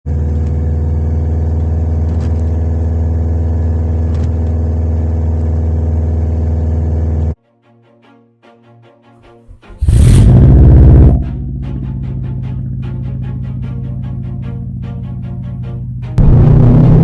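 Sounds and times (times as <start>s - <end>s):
car engine running: 0.1s - 7.4s, 9.8s - 17.0s.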